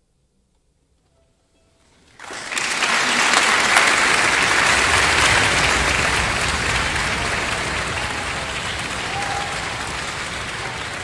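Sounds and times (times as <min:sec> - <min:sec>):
audience applause: 0:02.1 - 0:11.0.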